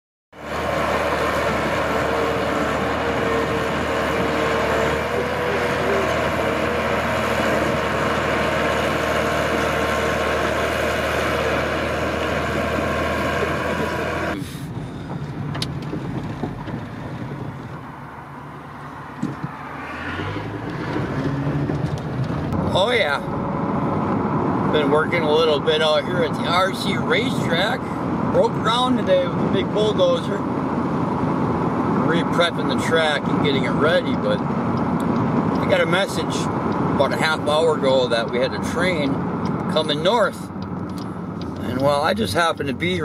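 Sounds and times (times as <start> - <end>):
bulldozer diesel engine: 0.4 - 43.0
car road noise from inside: 0.4 - 43.0.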